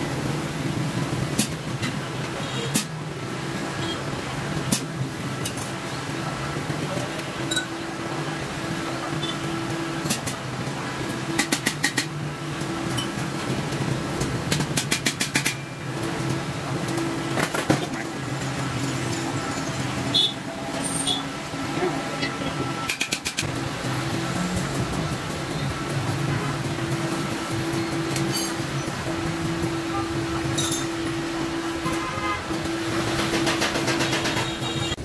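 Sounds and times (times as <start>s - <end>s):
truck engine running: 3.0s - 35.0s.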